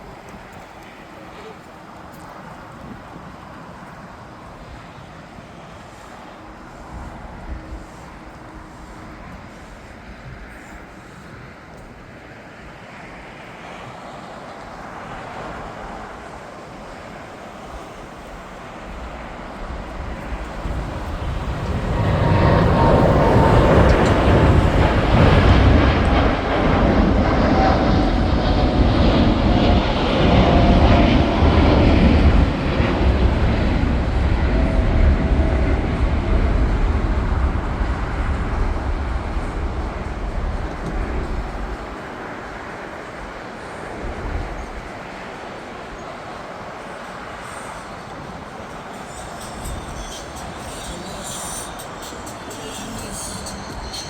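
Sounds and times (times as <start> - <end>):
jet airliner passing: 0.0 - 54.0.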